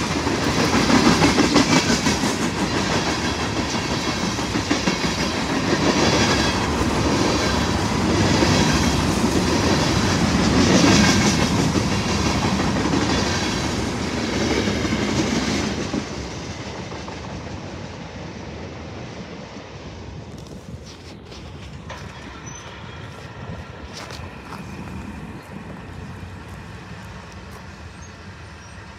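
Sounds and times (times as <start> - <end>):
train wheels clattering over rails: 0.0 - 18.0, 20.3 - 28.9.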